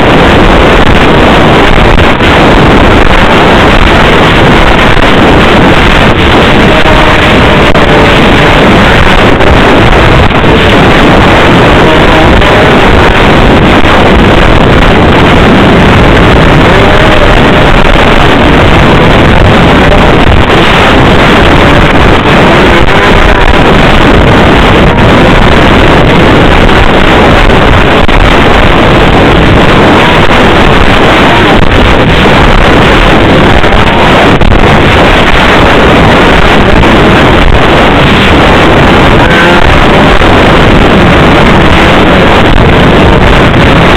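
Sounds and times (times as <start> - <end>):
snowmobile engine running: 0.0 - 43.9
wind noise on microphone: 0.0 - 43.9.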